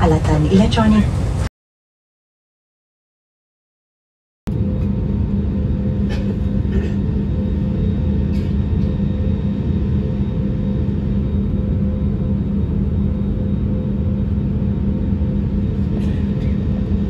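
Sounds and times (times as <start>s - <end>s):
jet engines rumbling: 0.0s - 1.5s, 4.5s - 17.0s.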